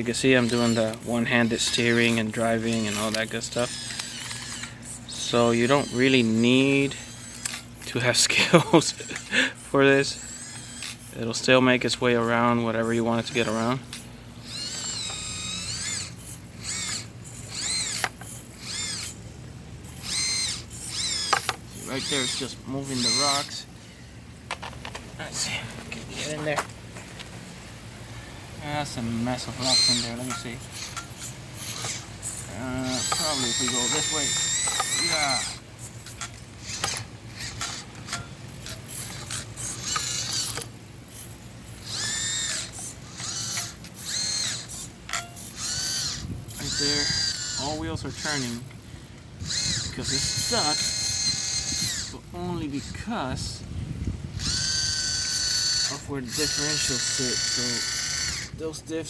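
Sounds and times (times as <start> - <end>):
ratcheting gear noise: 0.0 - 23.7, 28.6 - 53.5, 54.3 - 59.0
small electric motor whining: 0.0 - 59.0.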